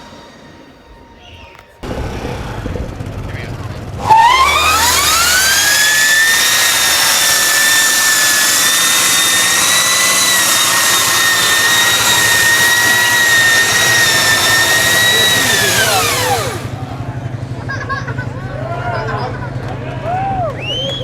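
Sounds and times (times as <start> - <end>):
electric motor whining: 0.0 - 17.3.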